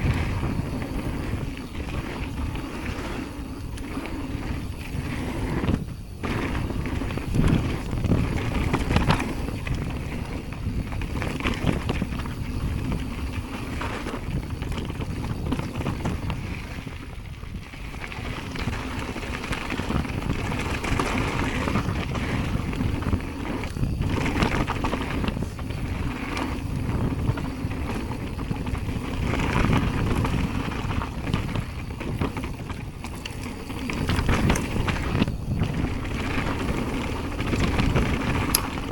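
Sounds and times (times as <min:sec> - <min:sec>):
bike knocks and rattles: 0:00.0 - 0:38.9
bike tyres rolling over dirt: 0:00.0 - 0:38.9
wind buffeting microphone: 0:00.0 - 0:38.9.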